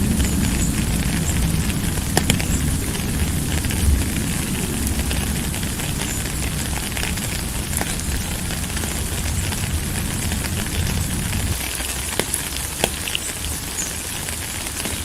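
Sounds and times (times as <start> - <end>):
low rumble: 0.0 - 12.1
rain hissing: 0.0 - 15.0.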